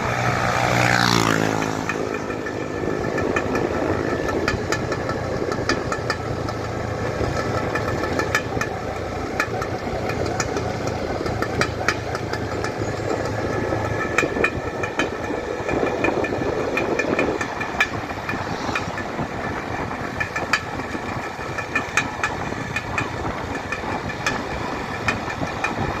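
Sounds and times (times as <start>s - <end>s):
vehicle engine running: 0.0s - 26.0s
sharp rattling clicks: 0.5s - 26.0s.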